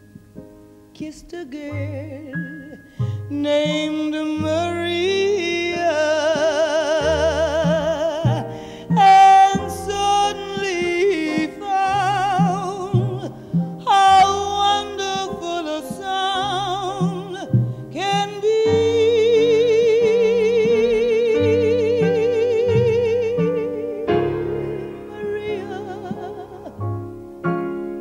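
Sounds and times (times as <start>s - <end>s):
piano bass and drums: 0.0s - 28.0s
woman singing jazz with vibrato: 1.0s - 27.0s.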